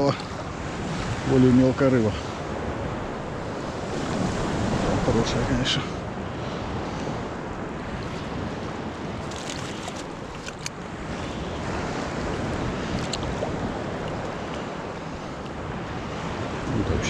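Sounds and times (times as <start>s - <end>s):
sea surf washing ashore: 0.0s - 17.0s
wind on microphone: 0.0s - 17.0s.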